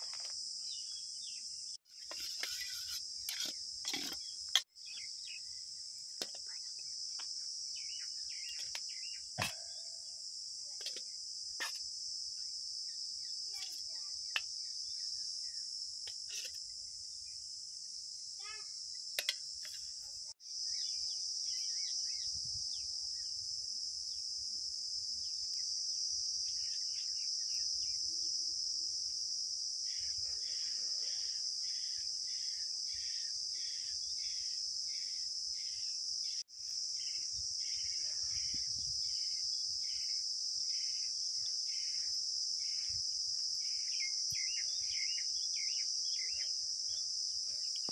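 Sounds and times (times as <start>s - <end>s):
high-pitched insect chorus: 0.0s - 47.9s.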